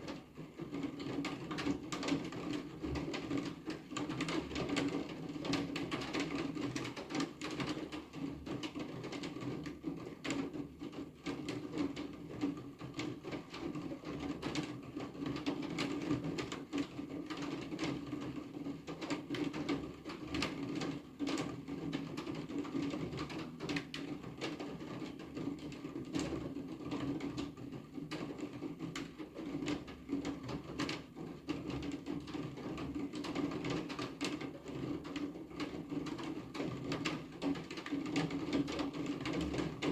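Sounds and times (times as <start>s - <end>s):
rain tapping on hard surface: 0.0s - 39.9s.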